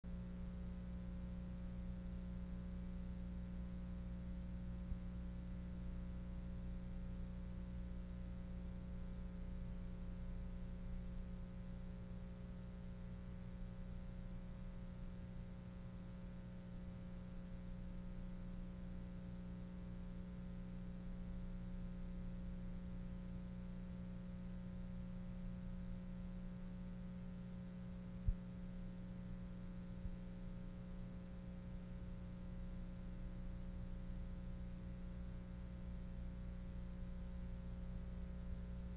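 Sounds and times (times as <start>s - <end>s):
electrical mains hum: 0.0s - 38.9s
faint high-pitched whine: 0.1s - 38.9s.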